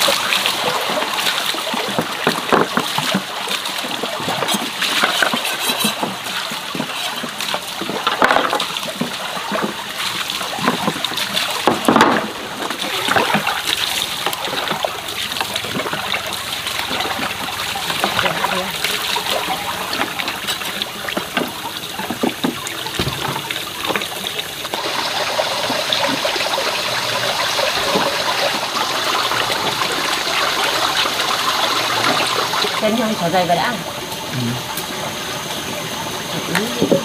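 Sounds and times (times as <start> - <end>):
running water splashing: 0.0 - 37.0.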